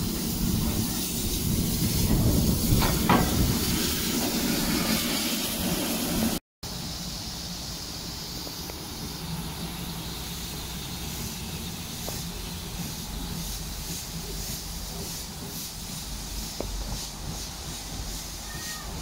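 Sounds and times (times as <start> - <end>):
locomotive exhaust beats: 0.0 - 19.0
steam locomotive hissing steam: 0.0 - 19.0.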